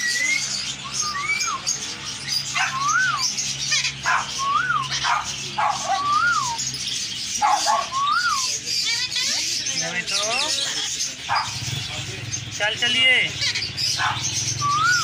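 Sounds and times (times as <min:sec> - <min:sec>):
birds chirping and chattering: 0:00.0 - 0:15.0
harsh bird squawks: 0:00.0 - 0:15.0.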